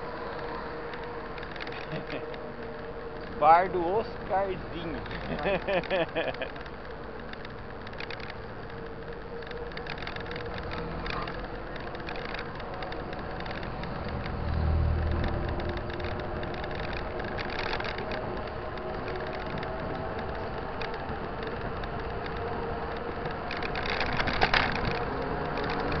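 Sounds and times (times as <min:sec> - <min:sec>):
bike rattles and clicks: 0:00.0 - 0:26.0
bike tyre hum on asphalt: 0:00.0 - 0:26.0
bus passing: 0:00.0 - 0:26.0
traffic noise: 0:00.0 - 0:26.0.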